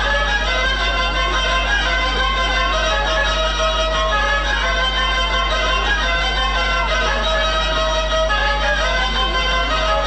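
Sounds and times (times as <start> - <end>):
fiddle playing a dance tune: 0.0 - 10.0.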